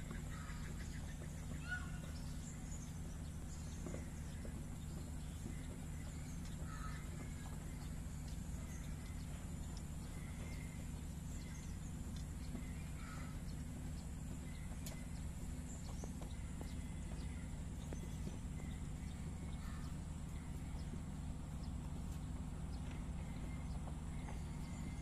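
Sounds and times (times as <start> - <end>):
faint bird calls: 0.0 - 25.0
steady low rumble: 0.0 - 25.0.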